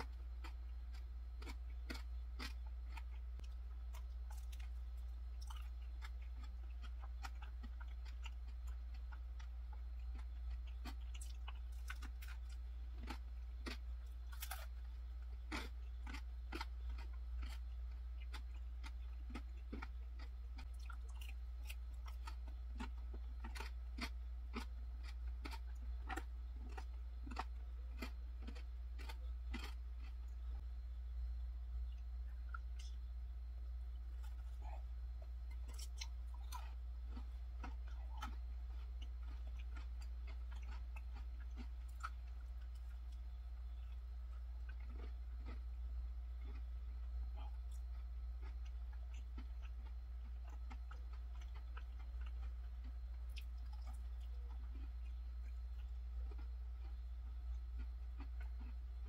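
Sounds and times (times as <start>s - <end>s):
chewing pastry: 0.0s - 59.0s
steady low hum: 0.0s - 59.0s.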